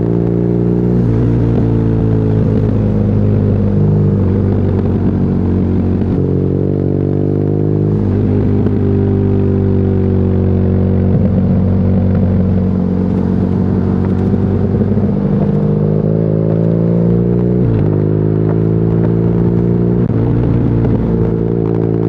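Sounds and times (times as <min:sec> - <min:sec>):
motorcycle engine riding: 0:00.0 - 0:22.0.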